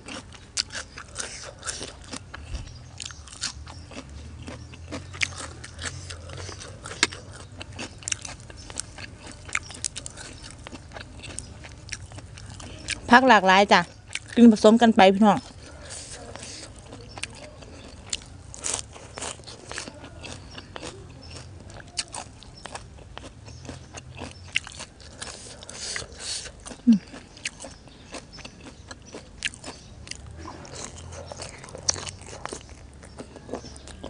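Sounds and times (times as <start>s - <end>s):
chewing and crunching: 0.0s - 34.0s.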